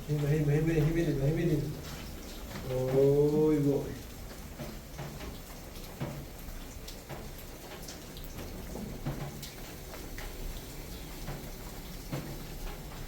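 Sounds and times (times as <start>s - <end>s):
water dripping and splashing: 0.0s - 13.0s.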